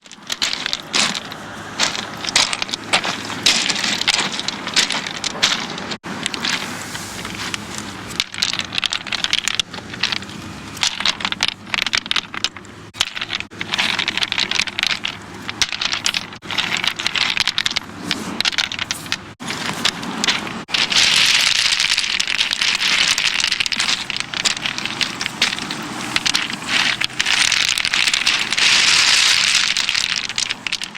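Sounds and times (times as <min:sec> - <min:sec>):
rocks clattering and scraping: 0:00.0 - 0:30.9.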